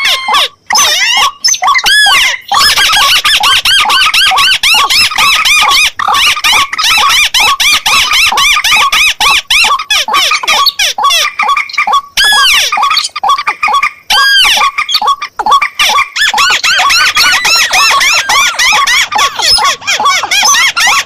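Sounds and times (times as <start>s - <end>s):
rail birds calling: 0.0s - 21.0s.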